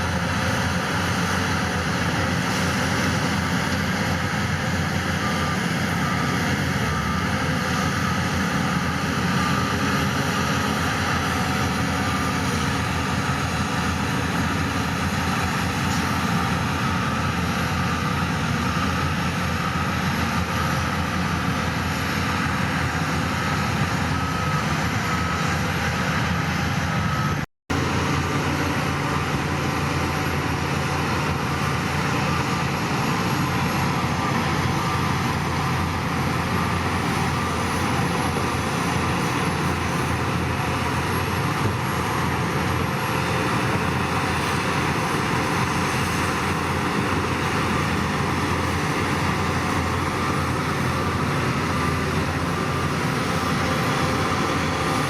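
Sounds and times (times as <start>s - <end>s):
diesel machine running: 0.0s - 55.0s
reversing alarm beeping: 0.0s - 55.0s.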